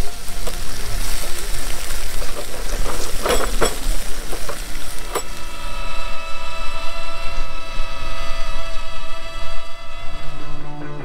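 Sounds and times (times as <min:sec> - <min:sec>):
ribs sizzling on a grill: 0:00.0 - 0:09.1.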